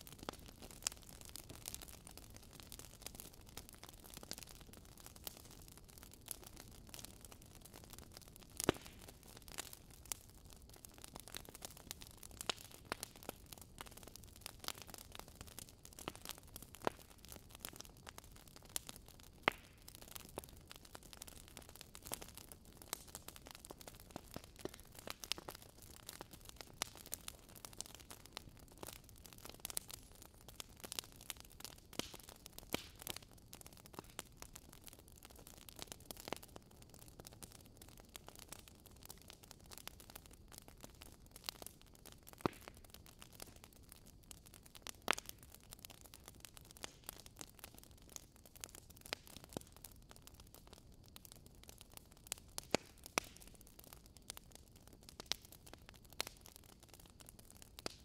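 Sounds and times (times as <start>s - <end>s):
bonfire crackling and popping: 0.0s - 58.0s
low hiss of fire: 0.0s - 58.0s.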